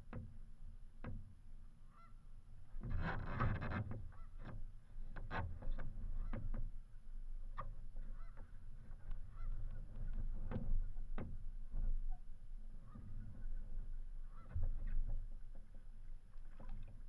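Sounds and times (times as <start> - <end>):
paddle splashes in water: 2.8 - 17.0.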